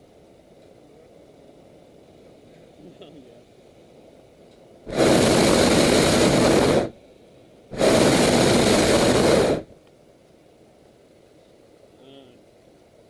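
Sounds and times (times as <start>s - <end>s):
propane burner blasts: 0.0s - 13.0s.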